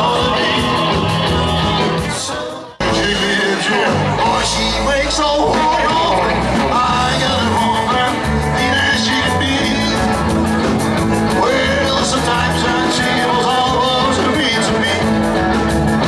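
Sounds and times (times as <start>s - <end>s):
drums beating on cymbals: 0.0s - 16.0s
electric guitar: 0.0s - 16.0s
stepping bass notes: 0.0s - 16.0s.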